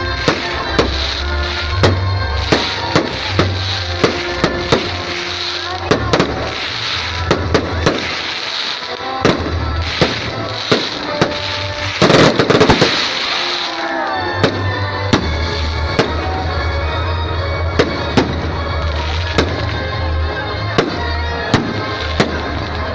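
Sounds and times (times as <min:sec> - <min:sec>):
fireworks bangs: 0:00.0 - 0:16.9, 0:17.6 - 0:22.9
fireworks crackling: 0:00.0 - 0:22.9
music playing: 0:00.0 - 0:22.9.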